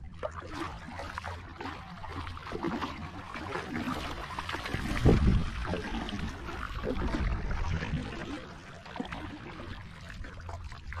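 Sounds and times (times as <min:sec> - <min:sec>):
water sloshing and trickling: 0:00.0 - 0:11.0
water splash: 0:00.0 - 0:11.0.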